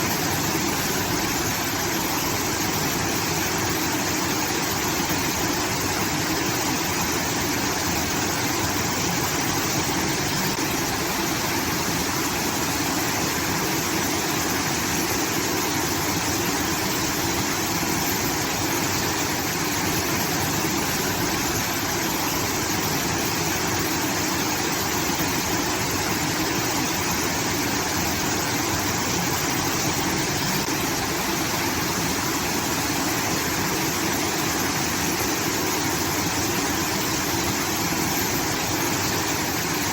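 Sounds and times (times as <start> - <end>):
water pouring and rushing: 0.0 - 39.9.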